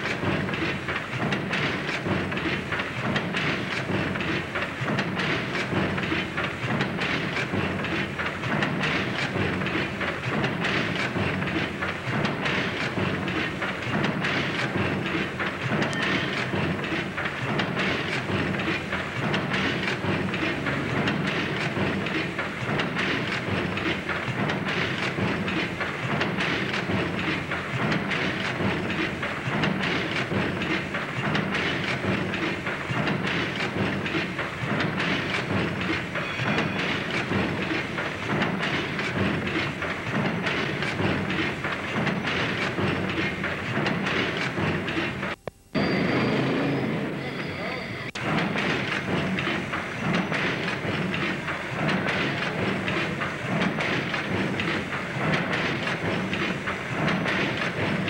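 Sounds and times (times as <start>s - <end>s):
steam engine clatter: 0.0s - 58.0s.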